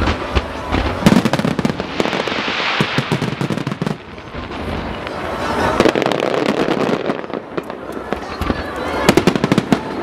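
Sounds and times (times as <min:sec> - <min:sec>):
fireworks cracks and bangs: 0:00.0 - 0:10.0
fireworks fountains hissing: 0:00.0 - 0:10.0.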